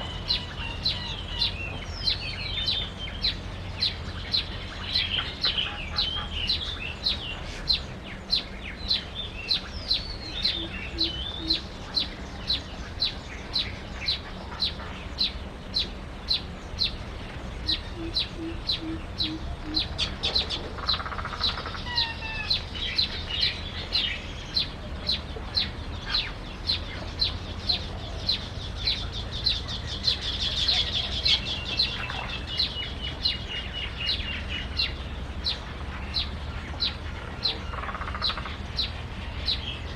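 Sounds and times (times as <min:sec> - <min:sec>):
bird chip calls: 0:00.0 - 0:39.9
birds chirping and whistling: 0:00.0 - 0:39.9.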